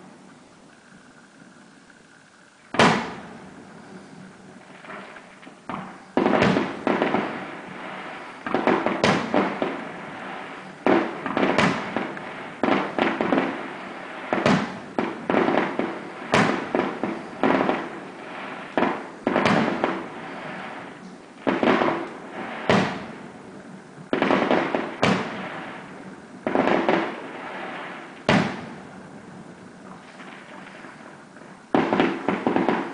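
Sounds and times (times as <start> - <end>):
fireworks booming with echo: 2.6 - 32.9.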